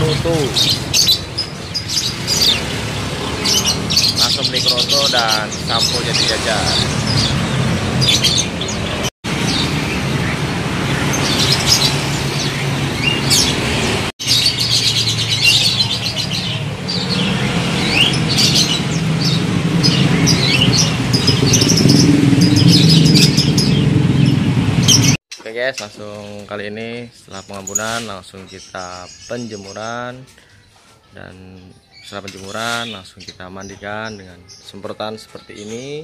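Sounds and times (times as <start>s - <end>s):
songbirds chirping: 0.0s - 36.0s.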